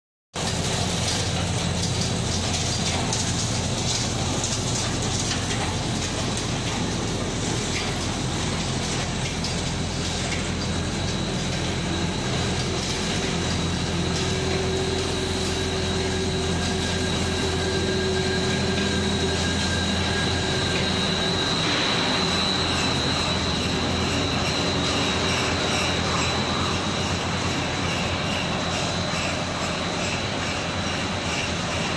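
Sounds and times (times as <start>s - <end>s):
machine noise with high whine: 0.4s - 31.9s.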